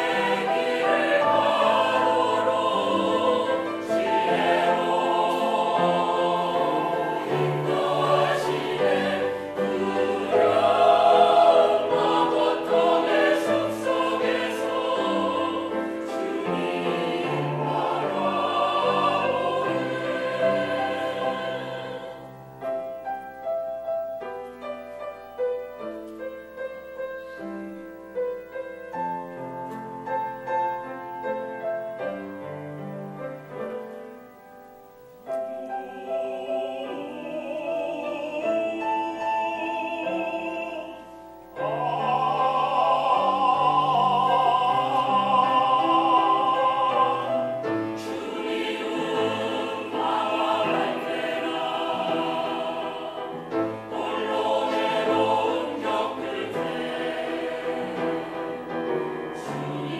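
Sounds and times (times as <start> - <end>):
church choir singing a hymn: 0.0 - 24.0, 35.2 - 59.9
piano accompaniment: 0.0 - 59.9.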